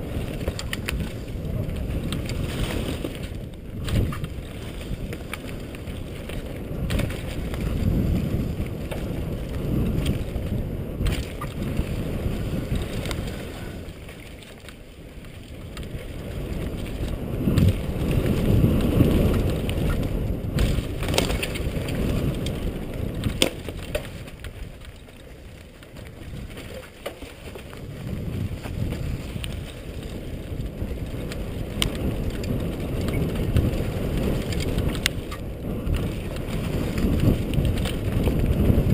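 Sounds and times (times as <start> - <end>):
bike clicks and knocks: 0.0 - 38.9
tyre noise on dirt: 0.0 - 38.9
wind buffeting camera: 0.0 - 38.9.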